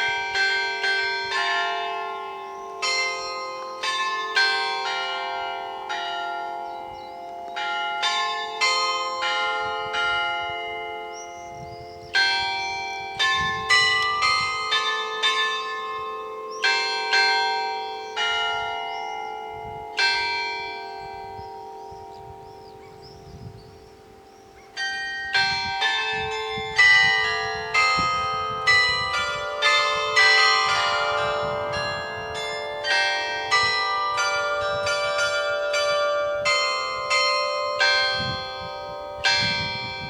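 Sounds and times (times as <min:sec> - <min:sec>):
church bells ringing: 0:00.0 - 0:40.0.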